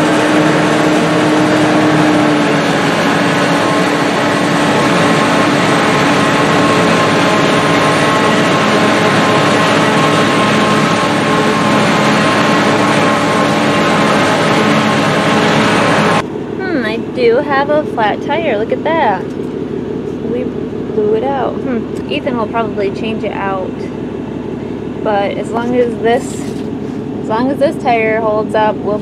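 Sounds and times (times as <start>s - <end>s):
forage harvester engine drone: 0.0s - 29.0s.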